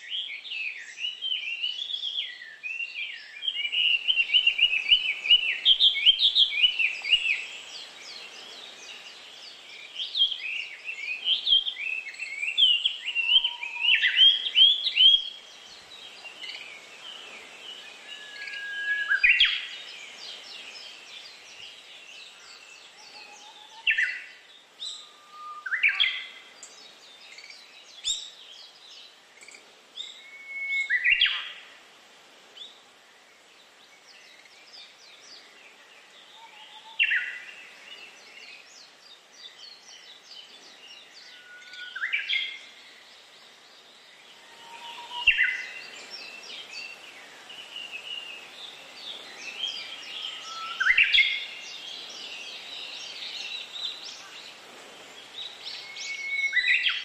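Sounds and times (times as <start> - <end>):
birds singing and calling: 0.0 - 31.8, 32.6 - 57.0
faint background hiss: 0.0 - 57.0.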